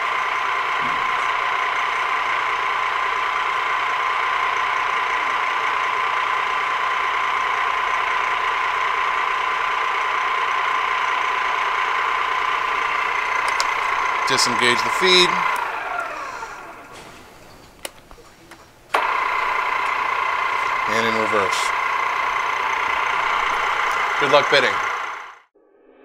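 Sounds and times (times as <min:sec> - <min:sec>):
drill press gear whine: 0:00.0 - 0:25.5.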